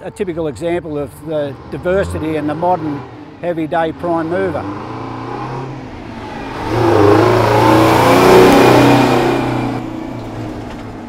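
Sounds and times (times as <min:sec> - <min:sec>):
truck driving past: 0:00.0 - 0:11.0.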